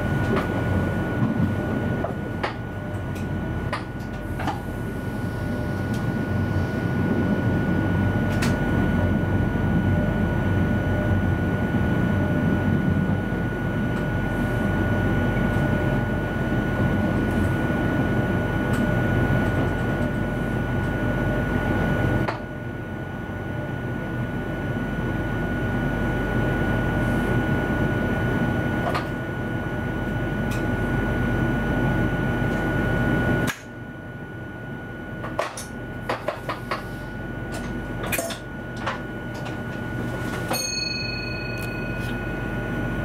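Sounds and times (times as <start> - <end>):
train cab hum and whine: 0.0 - 43.0.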